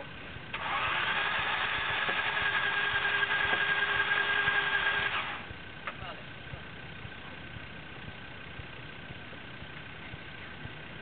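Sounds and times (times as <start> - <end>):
engine running under load: 0.0 - 11.0
high steady whine: 0.0 - 11.0.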